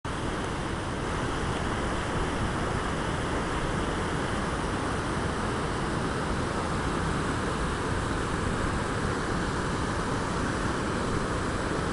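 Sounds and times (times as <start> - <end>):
river rushing through rapids: 0.1 - 11.9.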